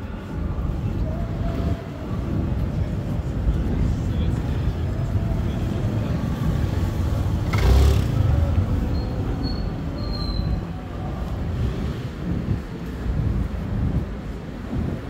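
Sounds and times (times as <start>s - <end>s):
city street traffic rumbling: 0.0s - 15.0s.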